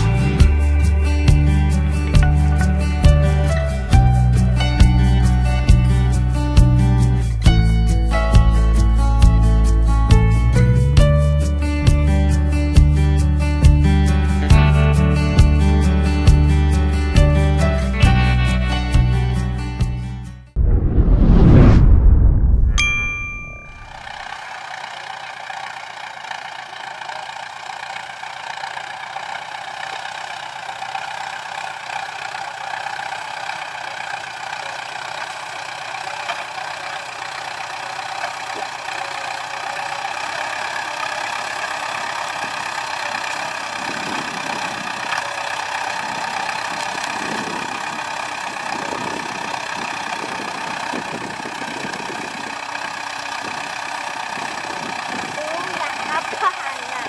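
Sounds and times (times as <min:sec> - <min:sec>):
tractor diesel engine running: 0:00.0 - 0:20.2, 0:22.8 - 0:57.0.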